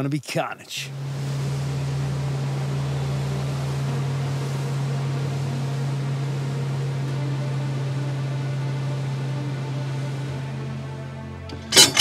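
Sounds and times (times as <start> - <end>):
wake and wind hiss: 0.8 - 11.3
outboard motor drone: 0.8 - 12.0.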